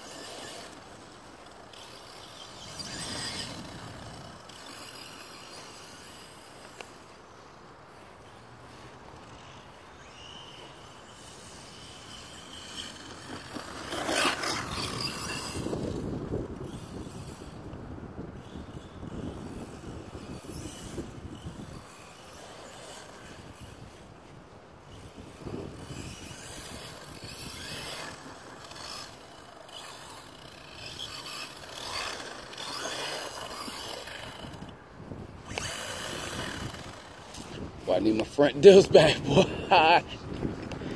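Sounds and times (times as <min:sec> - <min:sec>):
toy truck electric motor whine: 0:00.0 - 0:07.4, 0:09.2 - 0:17.8, 0:18.4 - 0:39.9.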